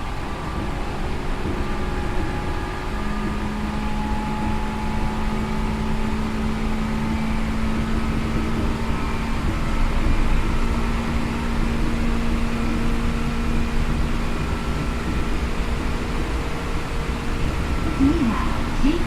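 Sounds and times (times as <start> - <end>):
train drive hum: 0.0 - 19.0
train wheels rumbling on track: 0.0 - 19.0.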